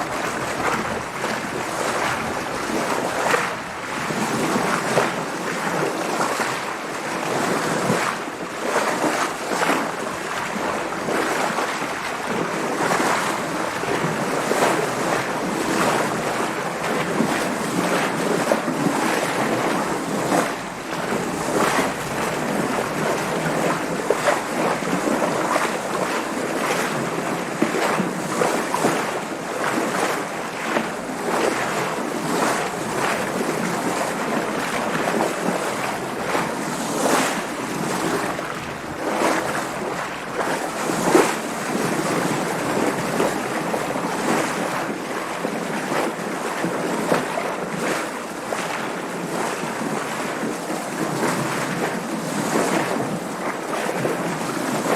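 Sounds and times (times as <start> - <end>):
water splashing against hull: 0.0 - 54.9.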